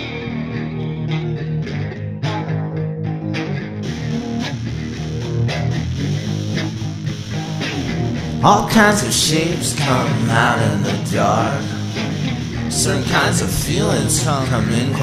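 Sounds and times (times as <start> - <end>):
guitars playing rock chords: 0.0 - 15.0.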